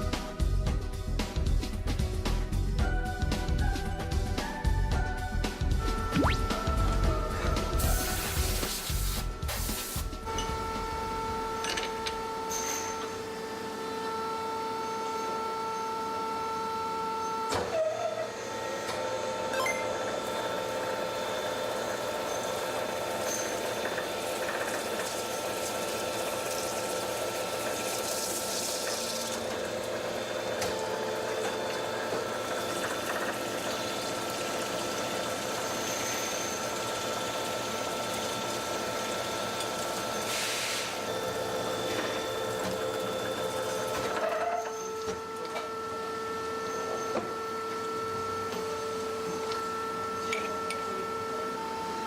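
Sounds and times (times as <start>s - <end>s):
factory machinery humming: 5.8s - 52.0s.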